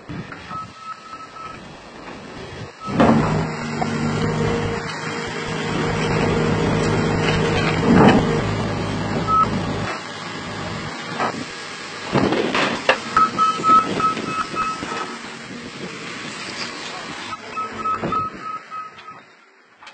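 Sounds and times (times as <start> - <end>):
heavy machine engine running: 0.0 - 18.8.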